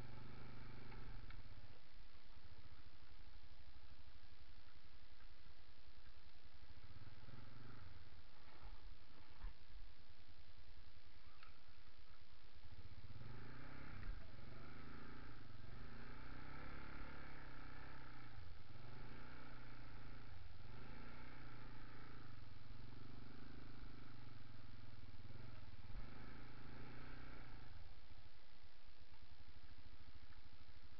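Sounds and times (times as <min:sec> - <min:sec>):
atv engine running: 0:00.0 - 0:30.9.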